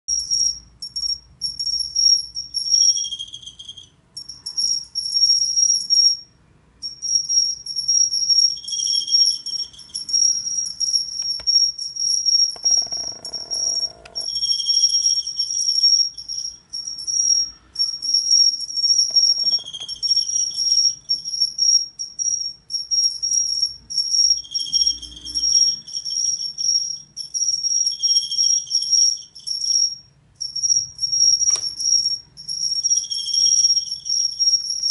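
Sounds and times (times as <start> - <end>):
cricket ringing trill: 0.1 - 34.9
lower cricket tone: 0.1 - 34.9.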